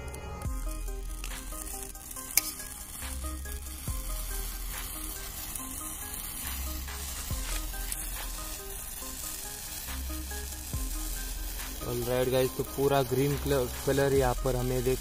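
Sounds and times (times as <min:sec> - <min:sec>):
sparklers crackling pops: 0:00.0 - 0:15.0
sparklers fizzing hiss: 0:00.0 - 0:15.0.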